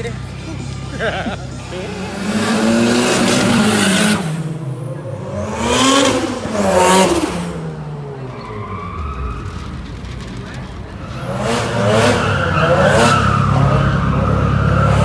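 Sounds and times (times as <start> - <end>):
car engines revving past: 0.0 - 15.0.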